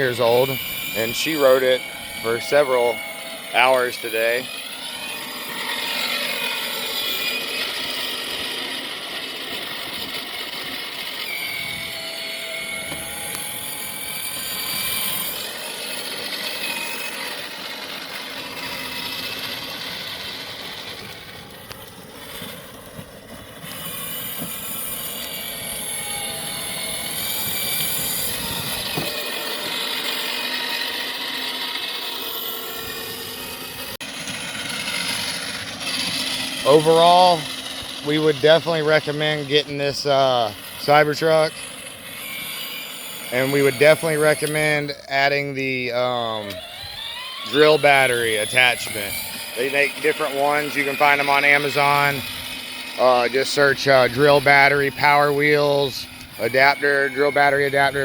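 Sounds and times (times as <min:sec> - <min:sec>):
toy car electric motors whining: 0:00.0 - 0:58.0.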